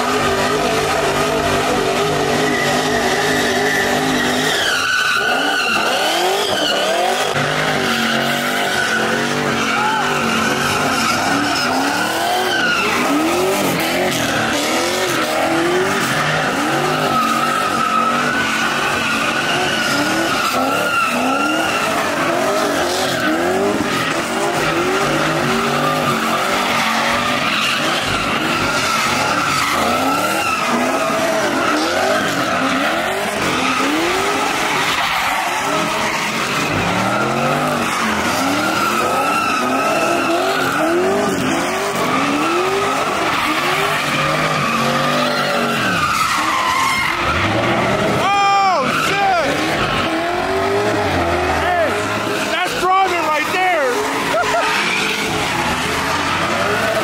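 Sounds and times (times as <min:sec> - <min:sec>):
engine revving: 0:00.0 - 0:34.9, 0:35.5 - 0:57.0
tyres squealing: 0:00.0 - 0:57.0.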